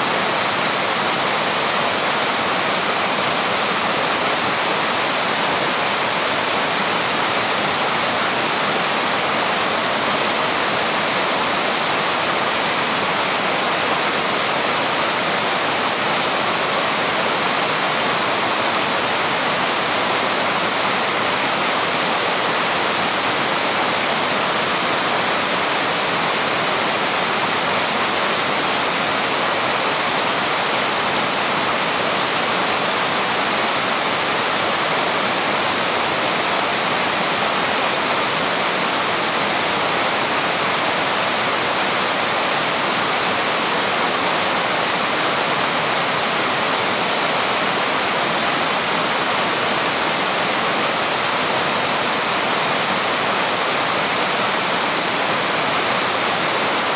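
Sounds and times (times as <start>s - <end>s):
waterfall pouring and splashing: 0.0s - 56.9s.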